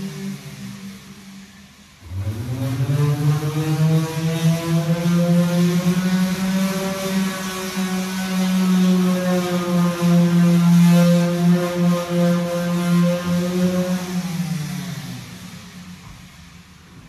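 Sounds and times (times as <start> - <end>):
electric sander whining: 2.0 - 17.0.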